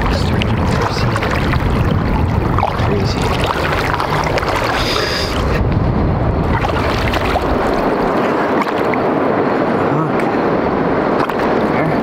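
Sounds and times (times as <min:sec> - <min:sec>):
river water rushing and lapping: 0:00.0 - 0:12.0
wind rumbling on microphone: 0:00.0 - 0:12.0.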